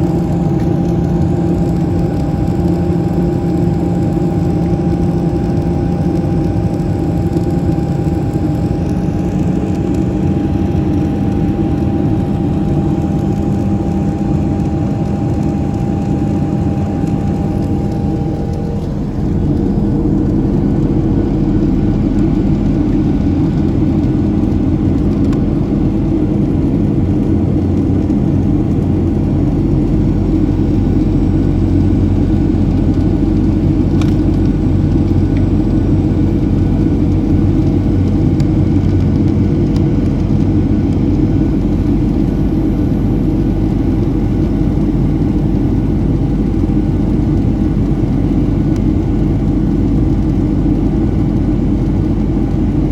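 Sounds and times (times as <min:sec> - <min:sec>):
jet cabin rumble: 0:00.0 - 0:52.9.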